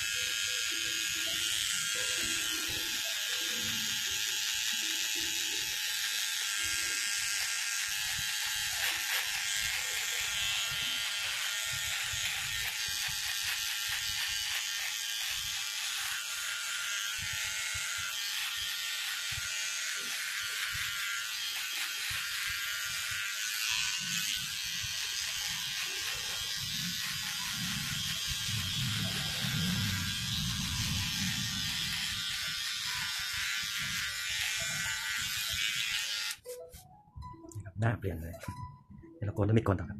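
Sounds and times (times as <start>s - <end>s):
electric hair clipper buzzing: 0.0s - 36.5s.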